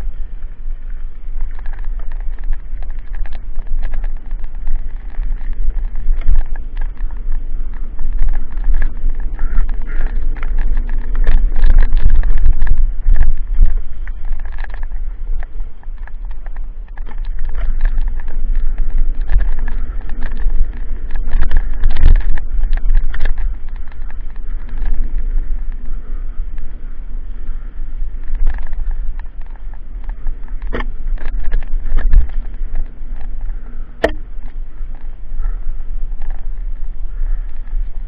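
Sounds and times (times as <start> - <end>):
bike rattling over bumps: 0.0 - 38.0
bike tyres rumbling on dirt: 0.0 - 38.0
wind buffeting microphone: 0.0 - 38.0.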